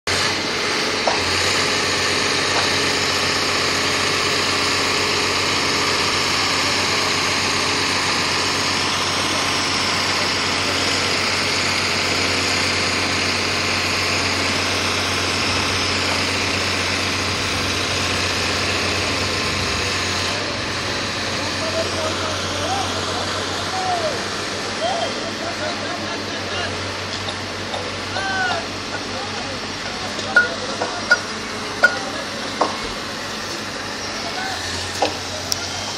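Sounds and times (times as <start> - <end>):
machine engine running: 0.1 - 35.9.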